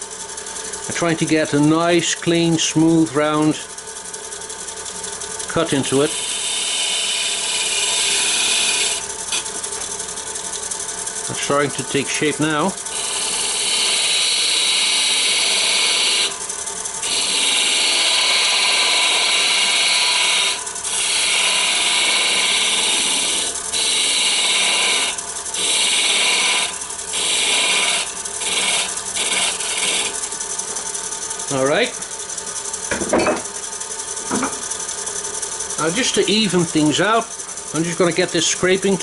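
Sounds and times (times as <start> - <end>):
wood lathe humming: 0.0 - 39.0
turning tool shaving wood: 0.2 - 32.4, 34.8 - 39.0.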